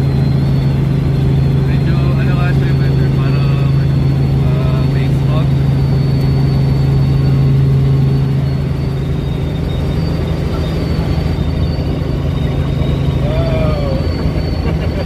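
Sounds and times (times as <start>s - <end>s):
helicopter engine and rotors drone: 0.0s - 15.0s.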